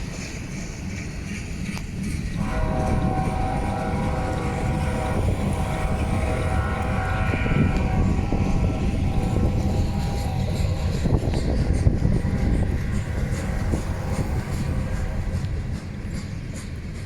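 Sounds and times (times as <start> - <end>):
locomotive blowers deep rumble: 0.0 - 17.0.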